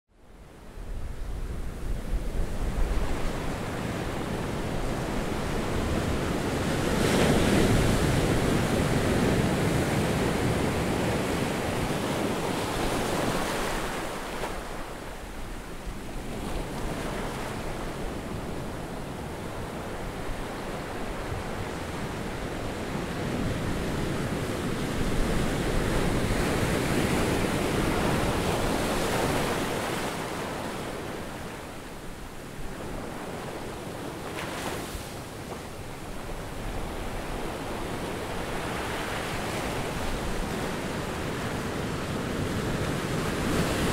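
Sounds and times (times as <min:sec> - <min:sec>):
surf breaking on a beach: 0:00.8 - 0:43.9.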